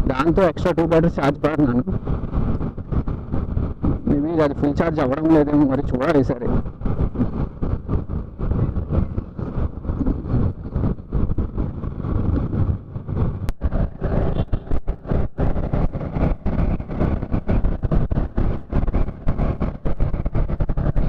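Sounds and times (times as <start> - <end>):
motorcycle engine and road noise: 0.0 - 21.0
wind buffeting microphone: 0.0 - 21.0.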